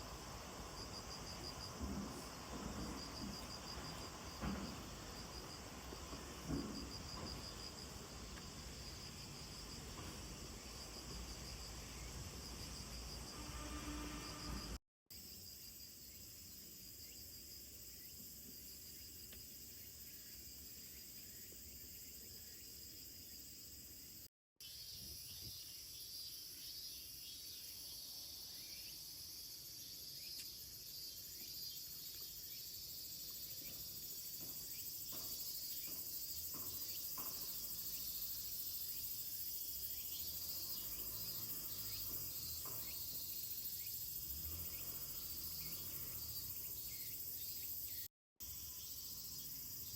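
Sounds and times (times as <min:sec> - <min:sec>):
crickets and insects chirping: 0:00.0 - 0:49.9.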